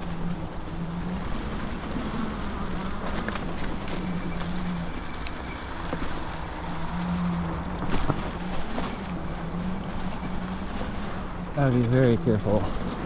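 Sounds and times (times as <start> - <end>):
electric motor humming: 0.0 - 11.5
tyre and wind rumble: 0.0 - 13.0.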